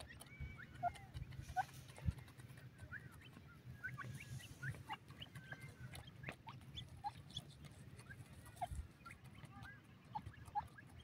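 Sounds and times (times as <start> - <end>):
young birds chirping: 0.0 - 11.0.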